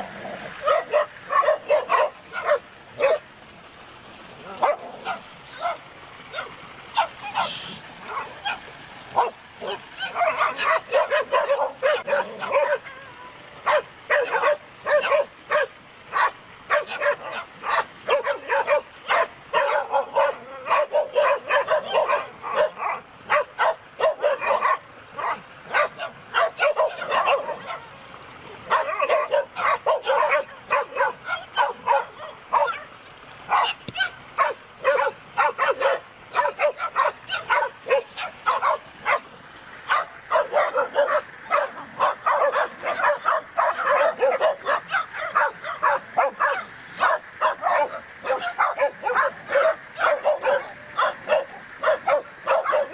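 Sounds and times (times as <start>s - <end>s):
dogs barking and yipping: 0.0s - 3.3s, 4.4s - 52.9s.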